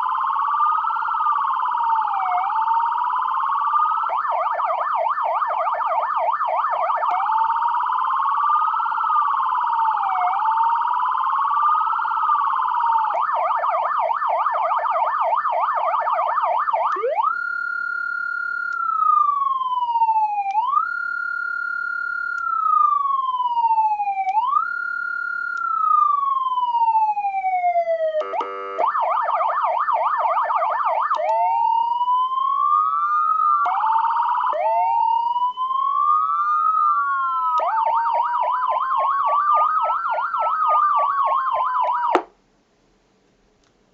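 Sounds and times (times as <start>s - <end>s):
electronic siren cycling tones: 0.0s - 42.3s.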